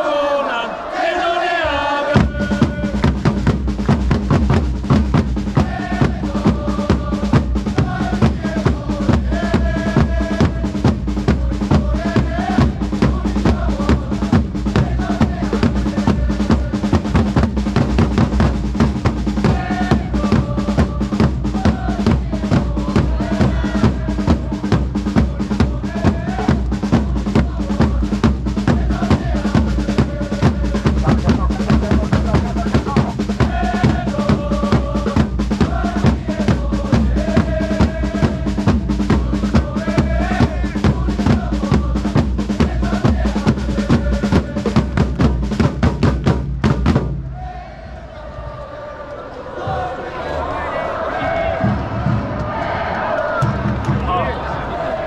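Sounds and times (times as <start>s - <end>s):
stadium crowd chanting: 0.0s - 55.0s
drum line marching beat: 2.2s - 47.6s, 51.2s - 54.4s.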